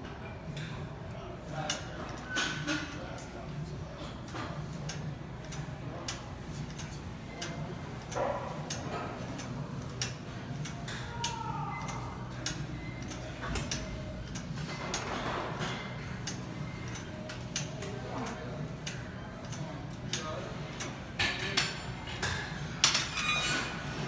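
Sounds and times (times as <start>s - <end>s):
gym equipment clicking and clinking: 4.1s - 23.8s.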